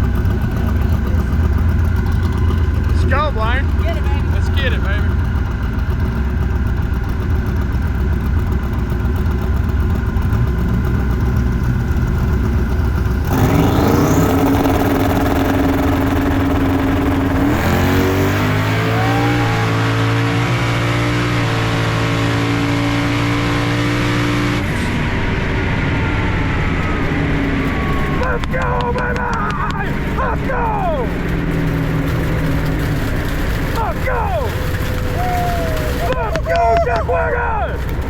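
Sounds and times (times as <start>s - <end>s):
race car engine accelerating: 0.0s - 38.0s.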